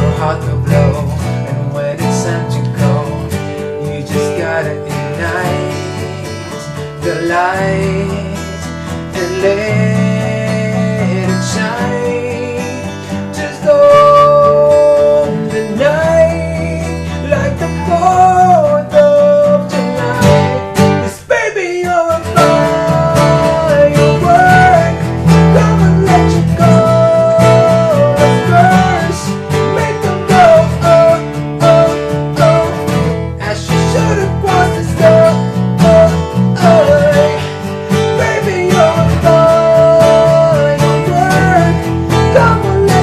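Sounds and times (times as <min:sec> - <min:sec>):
held melody line: 0:00.0 - 0:43.0
strummed acoustic guitar: 0:00.0 - 0:43.0.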